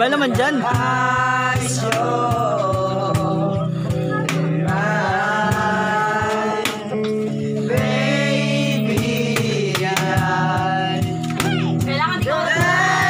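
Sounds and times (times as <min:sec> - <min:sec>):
men singing together: 0:00.0 - 0:11.3, 0:12.0 - 0:13.0
strummed acoustic guitar: 0:00.0 - 0:13.0.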